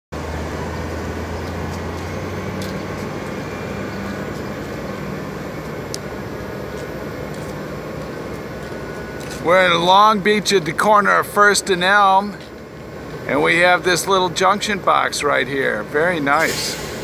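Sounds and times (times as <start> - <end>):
street traffic noise: 0.1 - 17.0
vehicle engine humming: 0.1 - 17.0.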